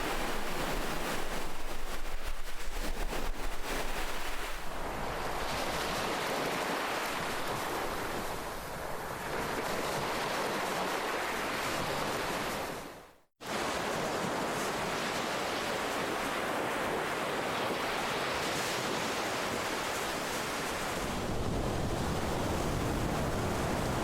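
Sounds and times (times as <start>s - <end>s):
ocean waves washing on shore: 0.0s - 24.0s.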